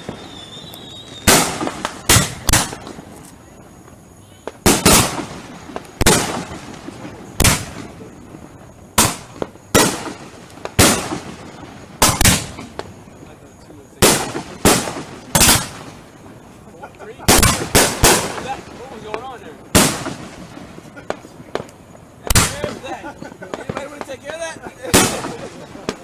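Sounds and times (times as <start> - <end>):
fireworks bangs with crackling: 0.0 - 26.0.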